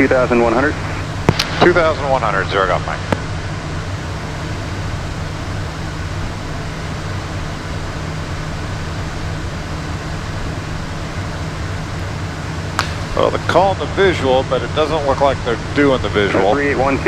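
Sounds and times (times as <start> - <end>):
jet cockpit air rush: 0.0 - 2.0, 3.1 - 17.0.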